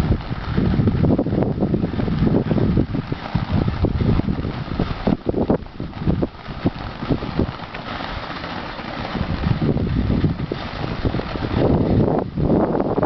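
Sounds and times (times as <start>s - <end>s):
firework pops and crackles: 0.0s - 12.3s
firework fountain hissing: 0.0s - 13.0s.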